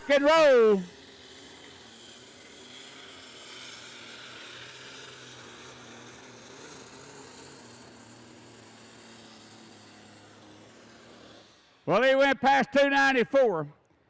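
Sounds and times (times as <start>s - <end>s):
distant tractor engine drone: 0.0s - 13.6s.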